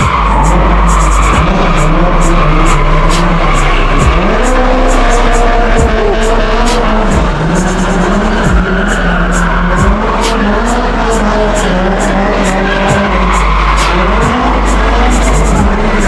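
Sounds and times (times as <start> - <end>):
car engine at high revs: 0.0 - 16.0
tyres squealing on pavement: 0.0 - 16.0.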